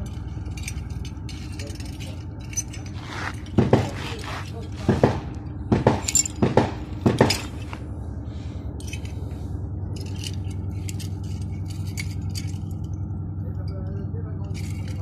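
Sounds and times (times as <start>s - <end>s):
metal parts clinking and scraping: 0.0s - 5.1s, 6.0s - 6.4s, 7.1s - 7.8s, 8.8s - 15.0s
steady low hum: 0.0s - 15.0s.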